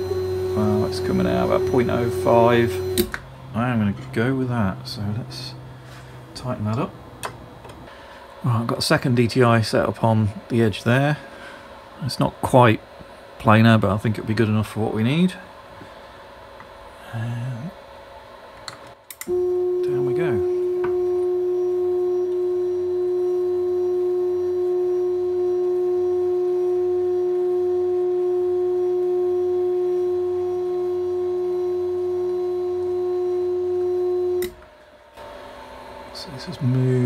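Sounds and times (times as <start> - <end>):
motor drive whine: 0.0 - 37.0.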